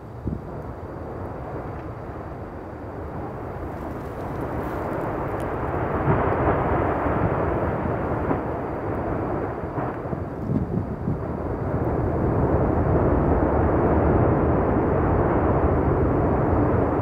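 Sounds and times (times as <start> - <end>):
lava fountain rushing rumble: 0.0 - 17.0
wind noise on microphone: 0.0 - 17.0.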